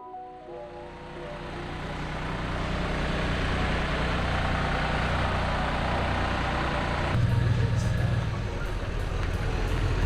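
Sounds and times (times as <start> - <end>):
heavy vehicle engine humming: 0.1 - 10.0.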